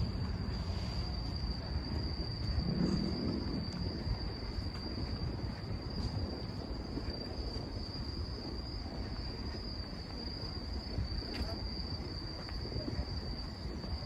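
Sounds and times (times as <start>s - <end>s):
crickets trilling: 0.0s - 14.0s
low outdoor rumble: 0.0s - 14.0s.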